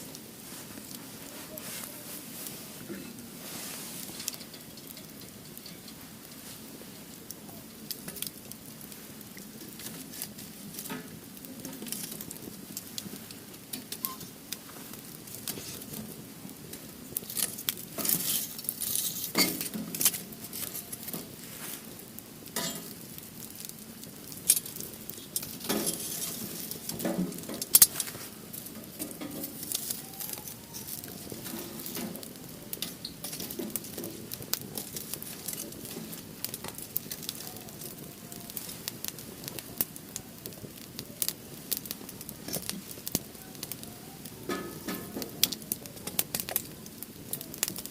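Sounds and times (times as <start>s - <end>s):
soft fire hiss: 0.0s - 47.9s
wood fire crackling and popping: 0.0s - 47.9s.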